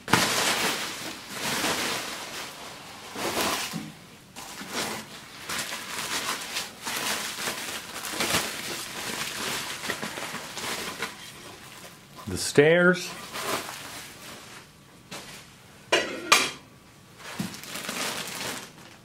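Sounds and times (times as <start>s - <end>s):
bubble wrap rustling and crackling: 0.0s - 12.2s, 13.2s - 15.4s, 17.2s - 19.0s.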